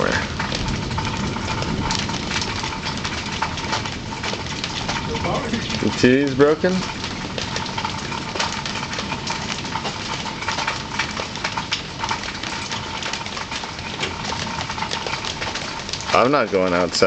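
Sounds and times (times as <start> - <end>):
rain falling: 0.0 - 17.0
water dripping: 0.0 - 17.0.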